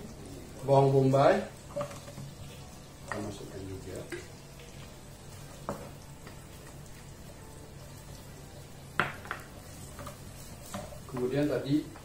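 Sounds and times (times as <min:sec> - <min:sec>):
onion sizzling in butter: 0:00.0 - 0:12.0.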